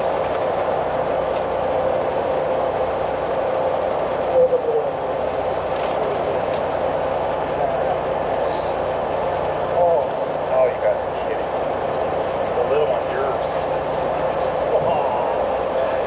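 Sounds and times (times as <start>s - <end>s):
diesel machinery running: 0.0s - 16.0s.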